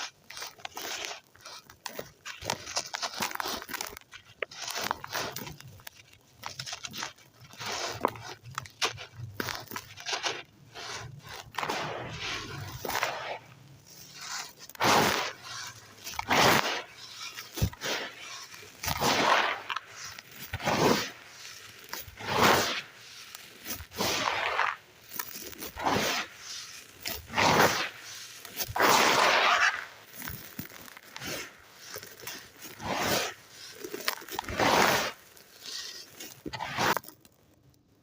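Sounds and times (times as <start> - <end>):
sand crunching in hand: 6.4 - 37.3.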